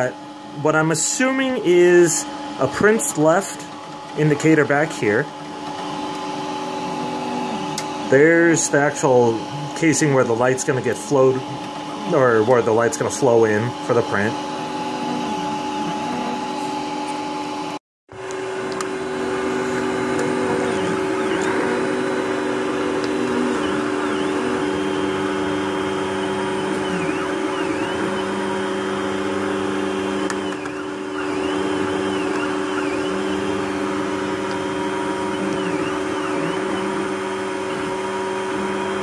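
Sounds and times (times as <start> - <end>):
stepper motors humming: 0.0 - 39.0.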